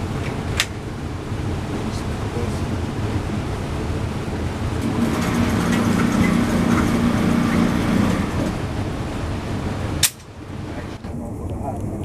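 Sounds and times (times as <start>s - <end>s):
low hum: 0.0s - 12.0s
vehicle rumbling: 0.0s - 12.0s.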